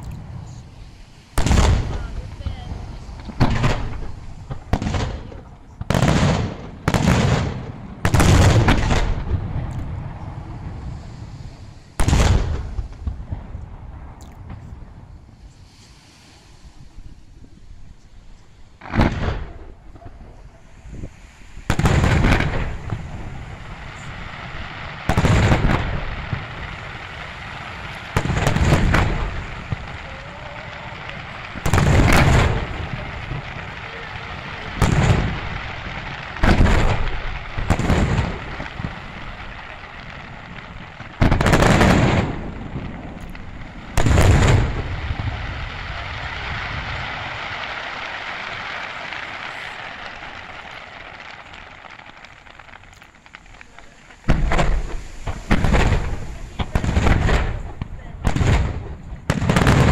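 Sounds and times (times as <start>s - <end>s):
fizzing hiss of burning fireworks: 0.0s - 59.9s
firework shells booming: 1.3s - 10.3s, 12.0s - 14.6s, 18.8s - 59.9s.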